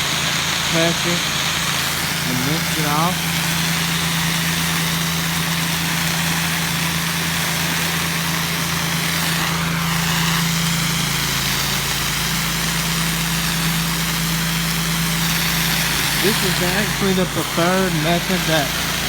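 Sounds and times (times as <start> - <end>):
small engine humming: 0.0 - 19.0
spray hissing: 0.0 - 19.0.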